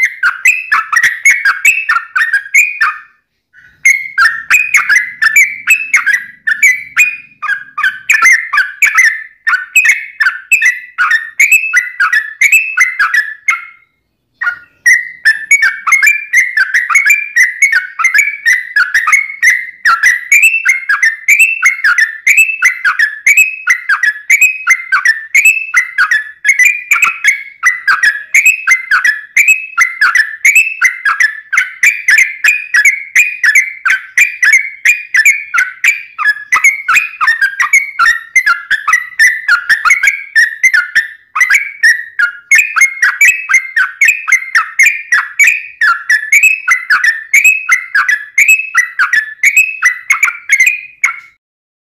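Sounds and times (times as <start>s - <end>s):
bird singing whistled phrases: 0.0s - 51.4s.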